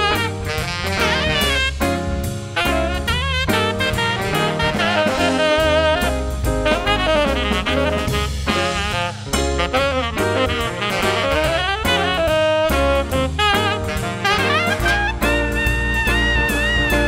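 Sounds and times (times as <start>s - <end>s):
bass: 0.0s - 17.0s
drum kit: 0.0s - 17.0s
saxophone solo: 0.0s - 17.0s.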